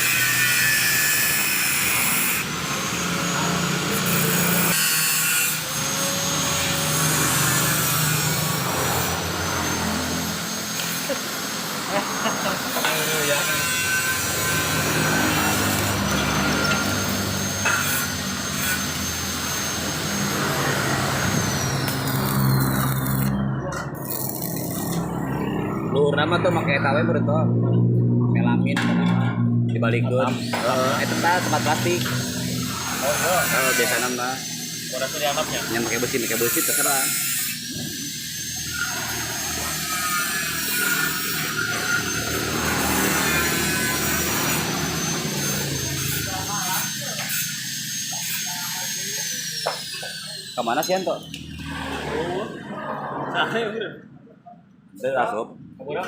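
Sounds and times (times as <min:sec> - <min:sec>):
motor running with high whine: 0:00.0 - 0:26.6, 0:30.2 - 0:50.6.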